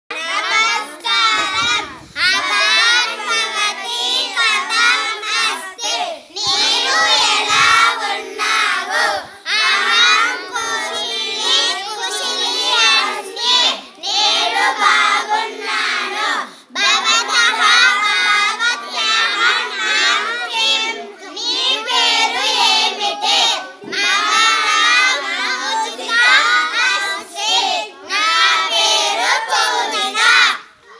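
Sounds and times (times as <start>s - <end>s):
children singing in unison: 0.1s - 30.9s.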